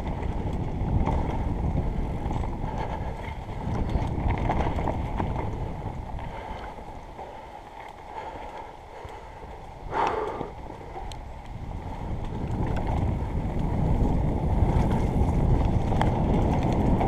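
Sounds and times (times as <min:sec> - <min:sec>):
wind on microphone: 0:00.0 - 0:07.5, 0:08.1 - 0:17.0
bike tyres rolling on dirt: 0:00.0 - 0:17.0.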